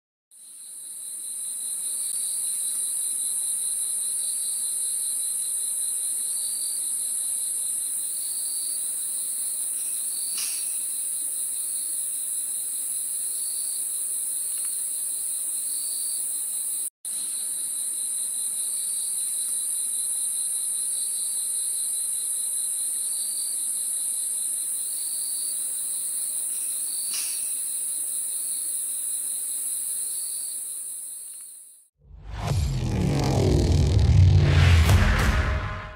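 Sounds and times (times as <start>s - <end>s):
crickets trilling: 0.4s - 31.8s.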